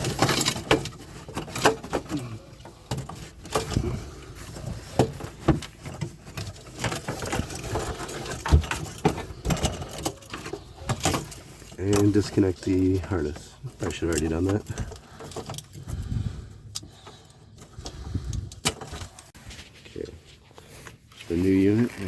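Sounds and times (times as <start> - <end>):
plastic part clunking and scraping: 0.0 - 19.4.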